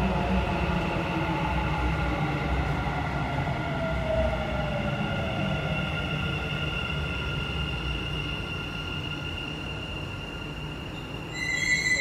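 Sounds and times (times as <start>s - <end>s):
train rumbling and whining: 0.0s - 12.0s.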